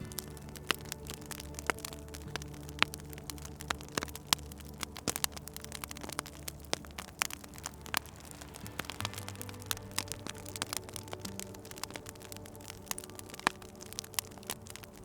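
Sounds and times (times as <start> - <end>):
low steady hum: 0.0 - 15.0
wood fire crackling and popping: 0.0 - 15.0.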